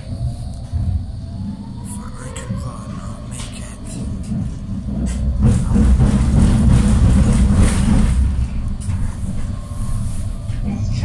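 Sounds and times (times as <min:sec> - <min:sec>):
tram low rumble with hiss: 0:00.0 - 0:11.0.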